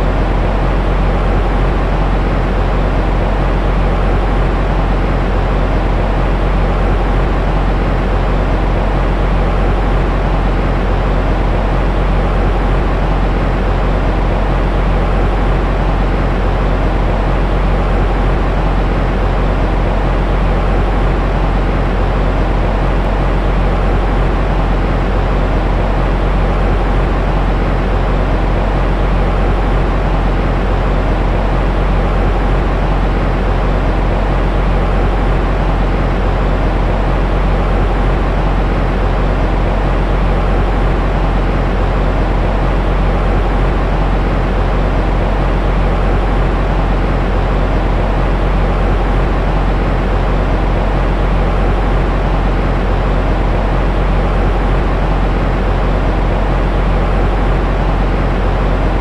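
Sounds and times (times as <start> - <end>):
deep white noise hiss: 0.0 - 59.0.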